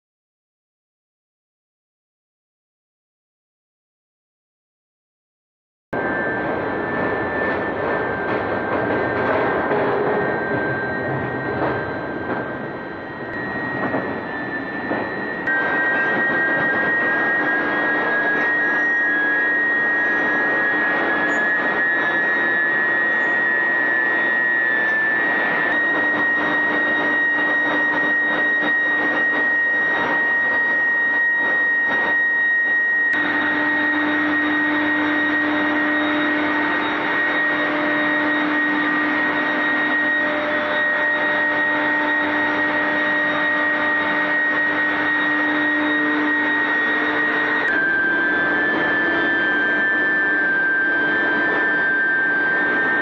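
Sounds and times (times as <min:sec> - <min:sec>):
high-pitched whine: 0:06.0 - 0:53.0
loud industrial roar: 0:06.0 - 0:53.0
low hum: 0:06.0 - 0:53.0.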